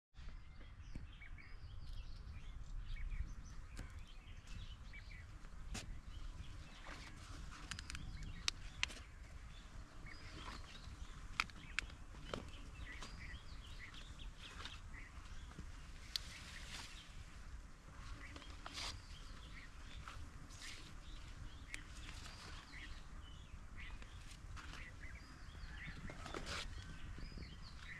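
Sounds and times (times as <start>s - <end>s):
small birds chirping: 0.2s - 27.9s.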